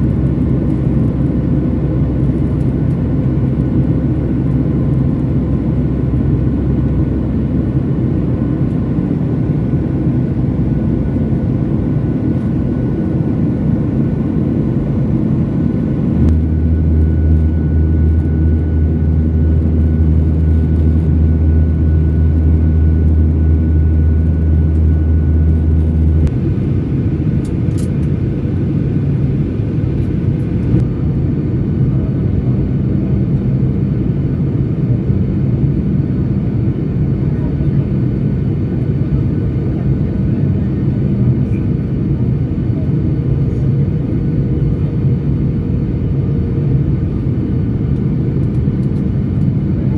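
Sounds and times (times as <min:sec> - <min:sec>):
deep low rumble: 0:00.0 - 0:49.9
jet engine cabin noise: 0:00.0 - 0:49.9.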